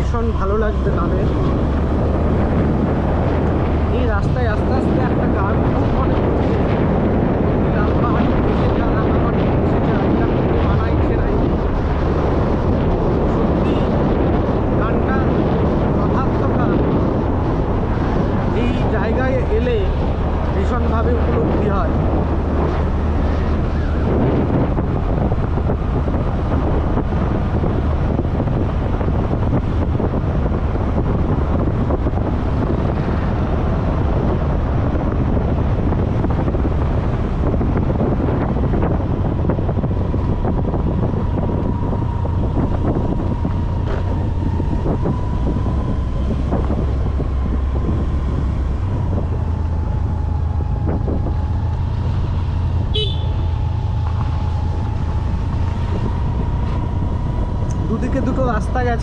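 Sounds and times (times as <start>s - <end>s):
vehicle engine and road rumble: 0.0s - 59.0s
wind buffeting microphone: 0.0s - 59.0s.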